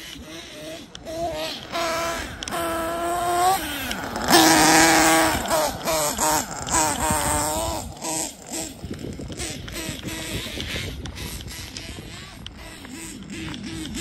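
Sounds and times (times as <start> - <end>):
rc truck nitro engine revving: 0.0 - 14.0.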